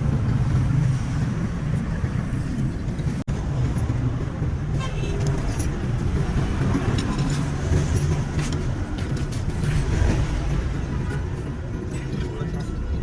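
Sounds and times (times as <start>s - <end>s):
rumble of road vehicles: 0.0s - 13.0s.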